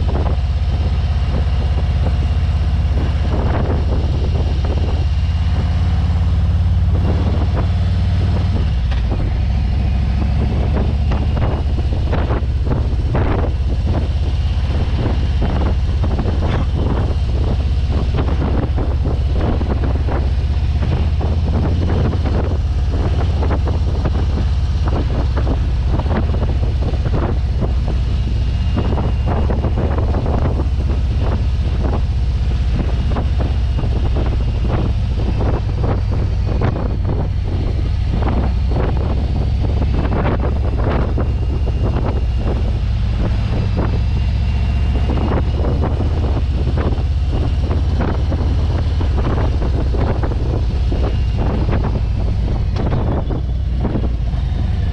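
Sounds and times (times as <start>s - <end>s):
motorcycle engine running: 0.0s - 54.9s
wind buffeting on microphone: 0.0s - 54.9s.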